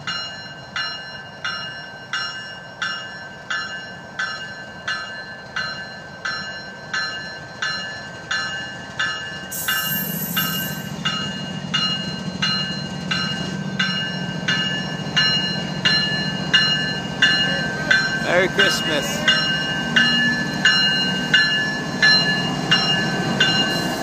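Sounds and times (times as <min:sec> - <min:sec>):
locomotive bell ringing: 0:00.0 - 0:24.0.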